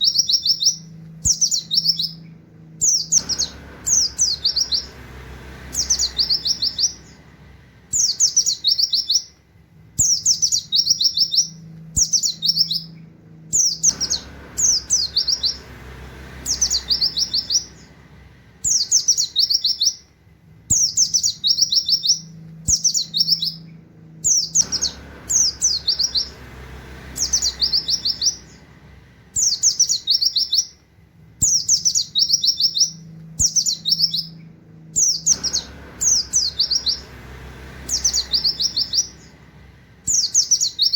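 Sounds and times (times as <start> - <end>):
white-eye bird singing: 0.0 - 9.4, 10.0 - 40.9.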